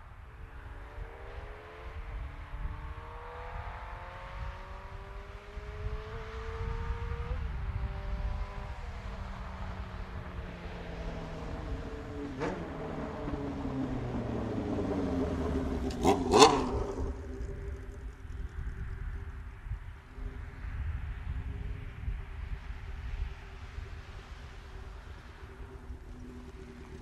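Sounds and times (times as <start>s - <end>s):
motorcycle passing: 0.2s - 27.0s
motorcycle engine revving: 0.5s - 21.8s, 23.8s - 27.0s.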